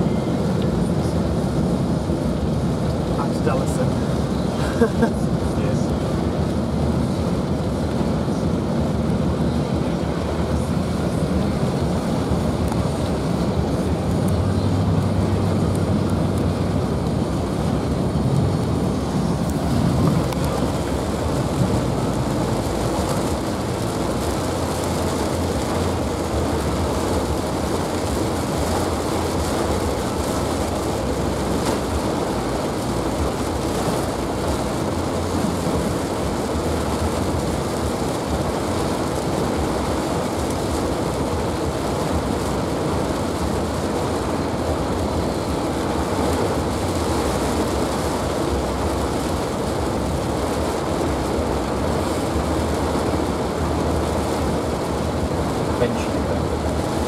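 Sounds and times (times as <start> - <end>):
rain pelting a car roof: 0.0 - 57.0
tyre and road noise: 0.0 - 57.0.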